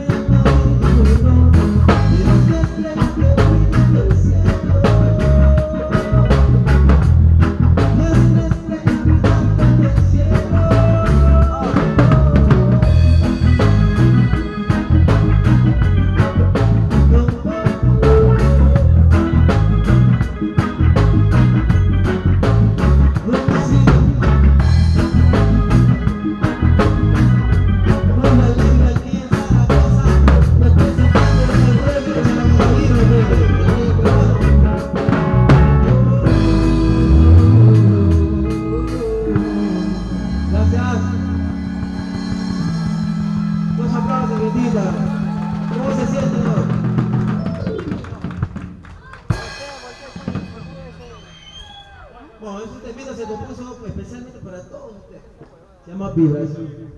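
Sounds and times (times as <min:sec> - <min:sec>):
drum kit beat: 0:00.0 - 0:52.1
live ska band music: 0:00.0 - 0:56.9.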